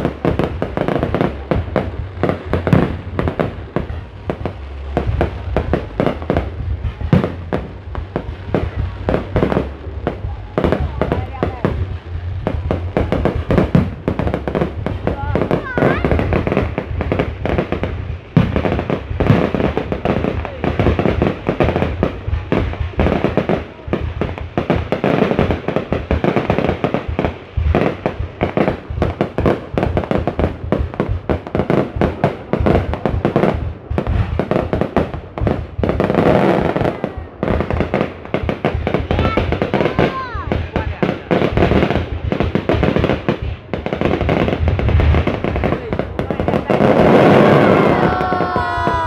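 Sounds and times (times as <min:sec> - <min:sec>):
fireworks bursting and crackling: 0:00.0 - 0:49.0.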